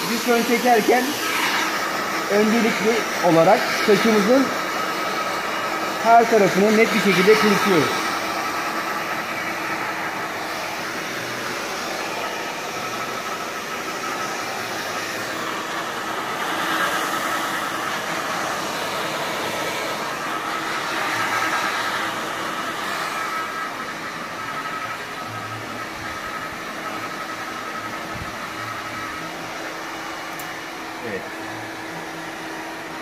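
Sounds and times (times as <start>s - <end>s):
hair dryer blowing: 0.0s - 33.0s.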